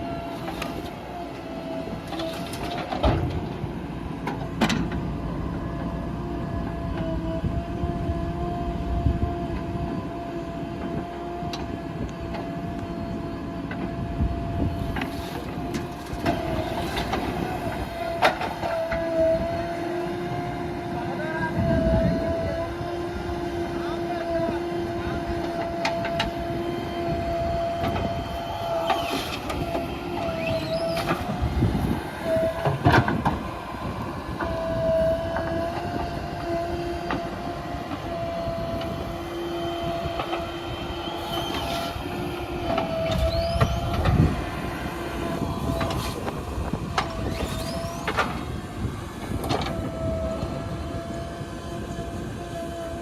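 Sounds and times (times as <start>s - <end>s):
diesel engine running hard: 0.0s - 53.0s.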